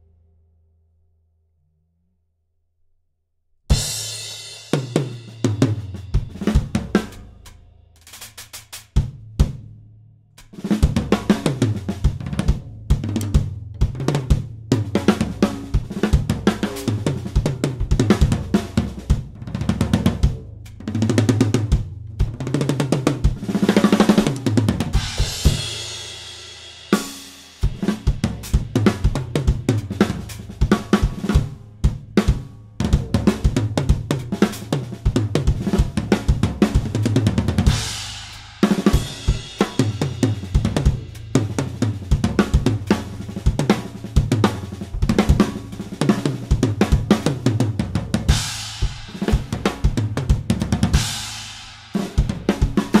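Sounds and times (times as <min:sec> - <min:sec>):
drum kit playing: 0:03.7 - 0:53.0.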